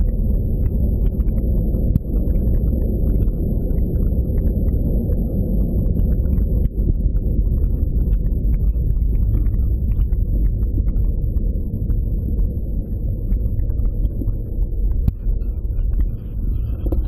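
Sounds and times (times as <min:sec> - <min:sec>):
muffled underwater rumble: 0:00.0 - 0:17.0
small clicks and ticks: 0:00.0 - 0:17.0.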